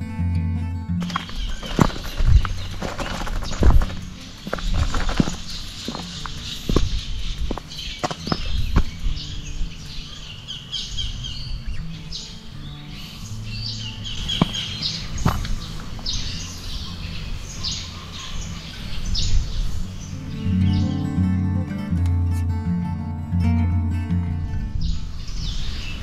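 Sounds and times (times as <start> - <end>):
birds chirping: 0.8 - 26.0.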